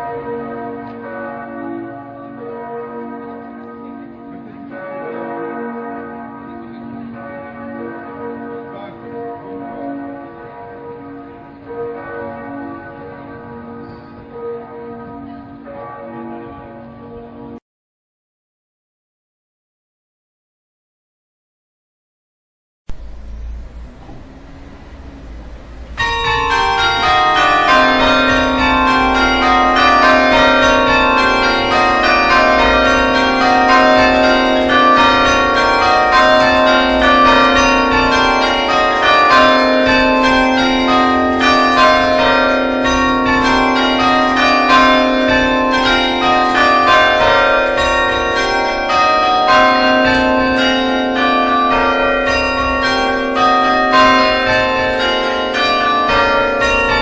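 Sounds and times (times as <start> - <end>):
church bells pealing: 0.0 - 17.6, 22.9 - 57.0.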